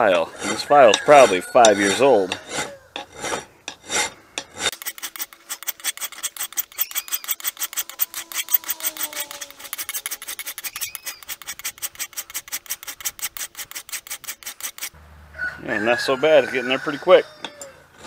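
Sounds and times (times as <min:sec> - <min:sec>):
hand file rasping on steel: 0:00.0 - 0:15.0.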